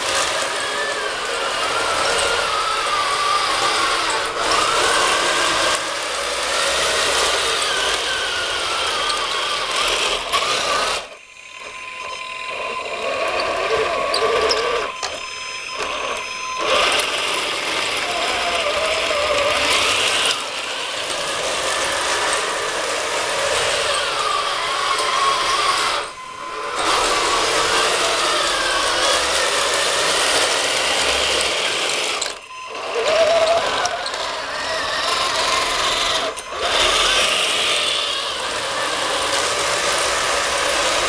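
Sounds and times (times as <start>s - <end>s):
electric motors whirring: 0.0s - 41.0s
plastic tracks and gears clattering: 0.0s - 41.0s.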